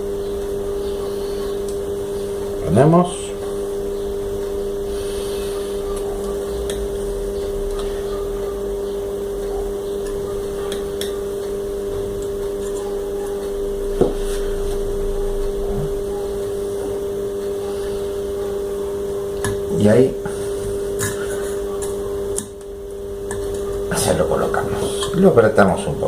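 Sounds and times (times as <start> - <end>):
electrical machine hum: 0.0 - 26.0.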